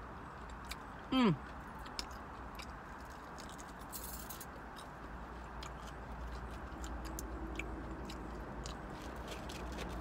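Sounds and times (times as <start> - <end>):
chewing: 0.2 - 10.0.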